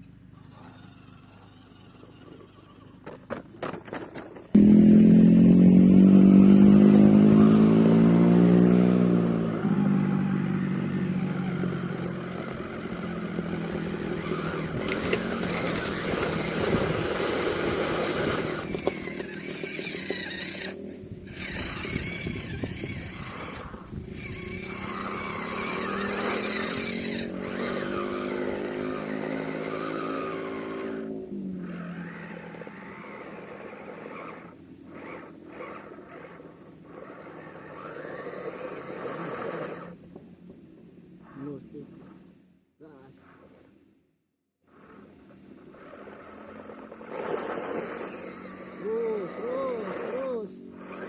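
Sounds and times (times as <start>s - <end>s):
toy car motor whining: 0.0s - 40.2s, 41.1s - 43.7s, 44.6s - 51.0s
steady high whine: 3.6s - 43.8s, 44.6s - 51.0s.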